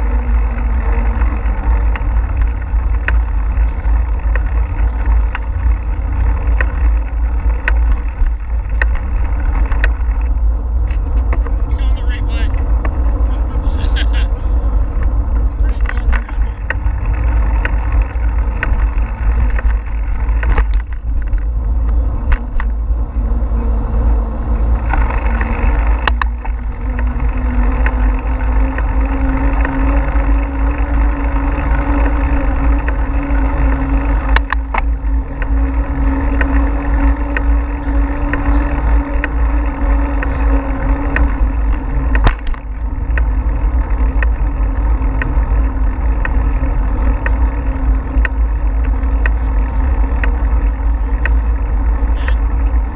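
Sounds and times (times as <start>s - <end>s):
steady hum: 0.0s - 52.9s
wind buffeting microphone: 0.0s - 52.9s.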